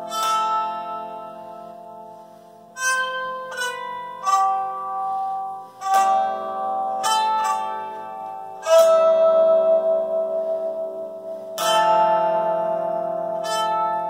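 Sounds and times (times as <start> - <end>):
bowed string melody: 0.0 - 14.0
plucked string chords: 0.0 - 14.0.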